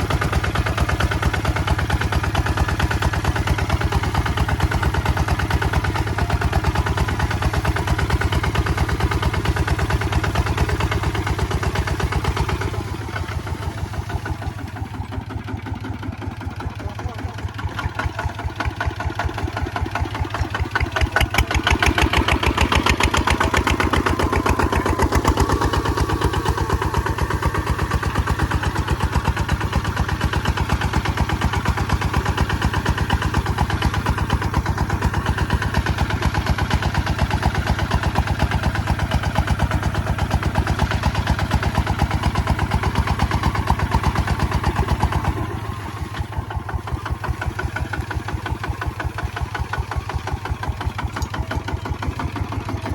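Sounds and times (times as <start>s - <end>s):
diesel engine chugging: 0.0s - 52.9s.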